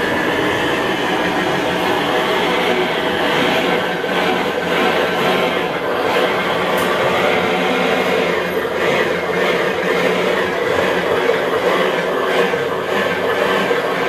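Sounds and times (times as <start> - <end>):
simulated engine sound: 0.0 - 14.0.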